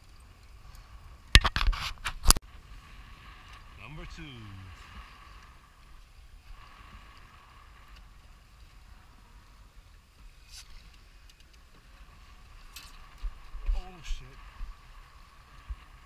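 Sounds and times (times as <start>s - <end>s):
wind: 0.0s - 16.0s
choppy water wash: 2.0s - 16.0s.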